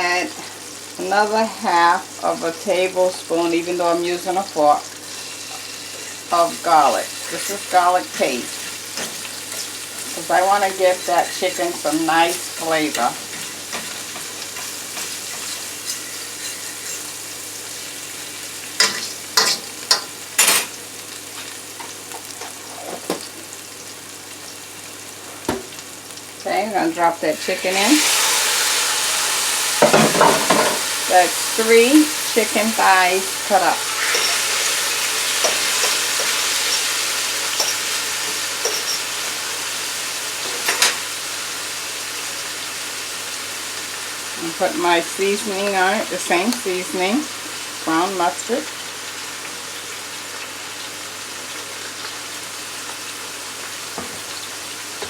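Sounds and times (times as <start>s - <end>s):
garlic sizzling in hot oil: 0.0s - 55.0s.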